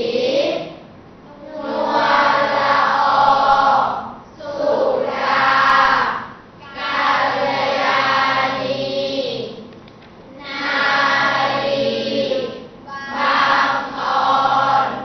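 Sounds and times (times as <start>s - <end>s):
chorus chanting in unison: 1.4s - 9.6s, 10.4s - 15.0s.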